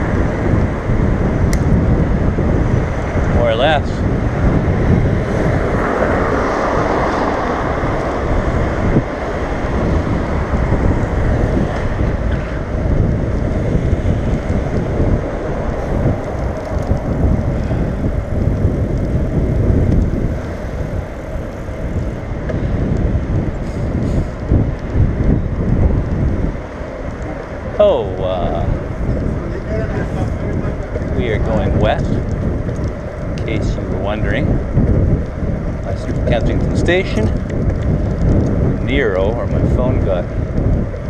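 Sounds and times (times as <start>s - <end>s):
road and traffic noise: 0.0s - 41.0s
wind buffeting microphone: 0.0s - 41.0s.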